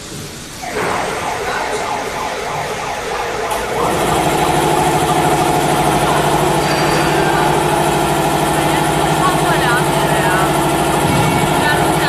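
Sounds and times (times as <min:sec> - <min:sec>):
dense mechanical noise: 0:00.0 - 0:12.0
steady motor hum: 0:01.6 - 0:12.0.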